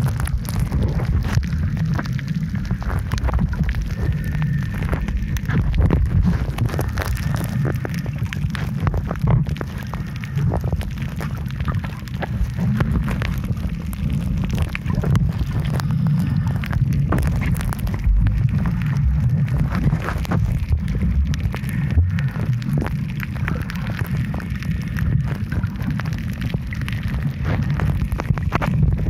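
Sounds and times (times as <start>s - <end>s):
underwater crackling clicks: 0.0s - 29.0s
underwater rumble of moving water: 0.0s - 29.0s.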